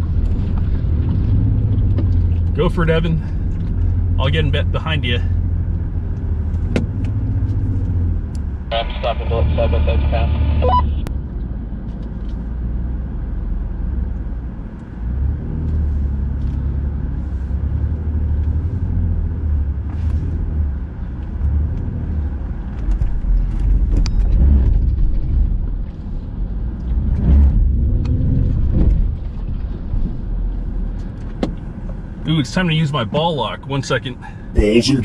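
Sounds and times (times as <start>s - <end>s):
off-road vehicle engines rumbling: 0.0s - 35.0s.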